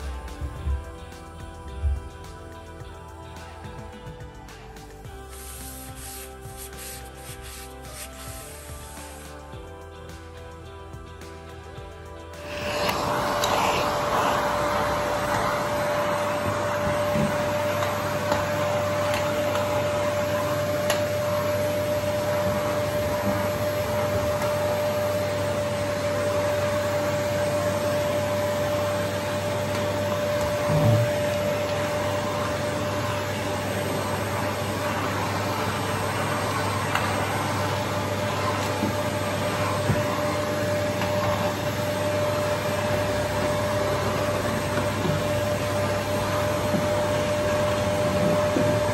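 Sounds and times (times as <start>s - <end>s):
vacuum cleaner running: 0.0s - 2.8s, 3.4s - 9.7s, 11.8s - 48.9s.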